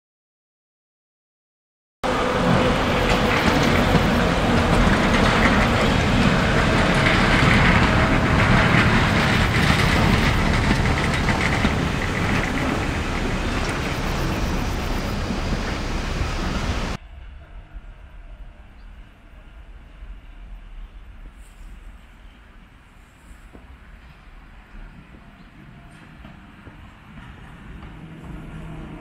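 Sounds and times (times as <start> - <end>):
railcar wheels rumbling on rails: 2.0 - 29.0.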